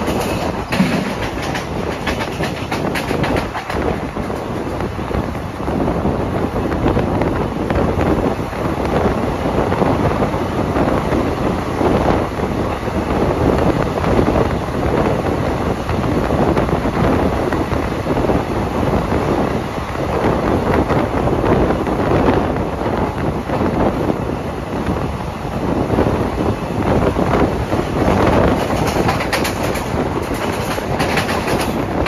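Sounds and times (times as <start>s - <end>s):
moving passenger train: 0.0s - 32.0s
wind buffeting microphone: 0.0s - 32.0s.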